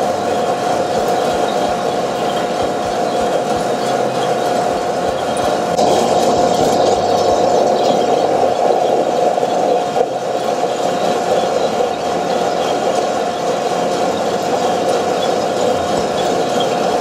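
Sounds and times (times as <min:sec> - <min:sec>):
coffee roaster humming and whining: 0:00.0 - 0:17.0.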